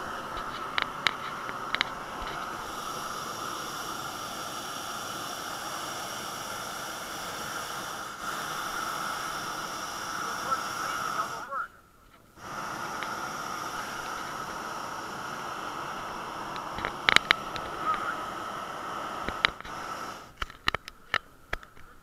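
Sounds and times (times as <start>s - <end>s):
steady hiss with high tone: 0.0s - 22.0s.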